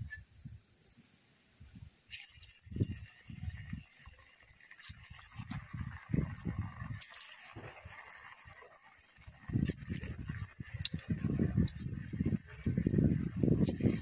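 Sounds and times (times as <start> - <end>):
fritters sizzling in hot oil: 2.1 - 14.0.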